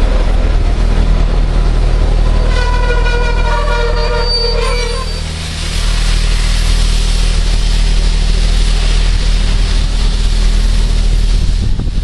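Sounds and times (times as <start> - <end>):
rush of wind: 0.0 - 3.5, 5.2 - 12.0
train low rumble: 0.0 - 12.0.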